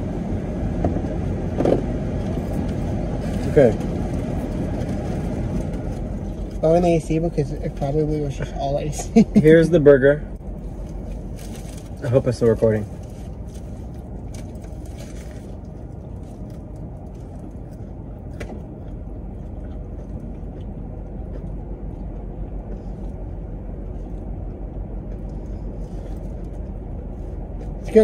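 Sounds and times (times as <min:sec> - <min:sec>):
car rumbling from inside cabin: 0:00.0 - 0:28.0.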